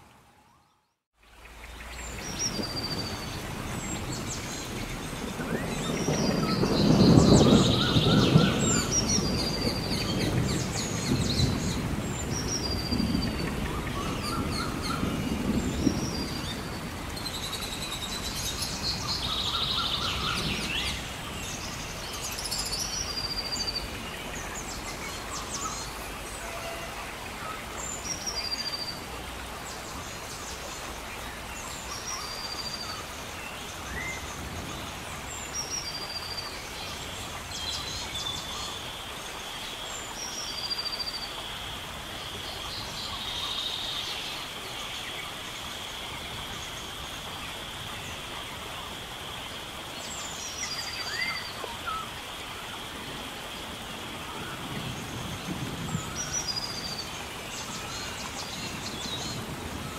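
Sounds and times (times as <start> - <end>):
rain hissing: 1.2 - 59.9.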